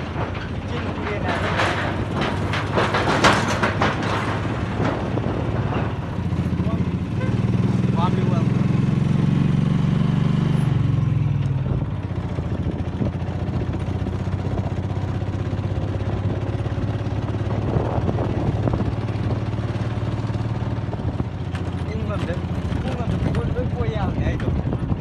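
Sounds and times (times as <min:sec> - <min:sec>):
road noise: 0:00.0 - 0:25.0
vehicle engine running: 0:00.0 - 0:25.0.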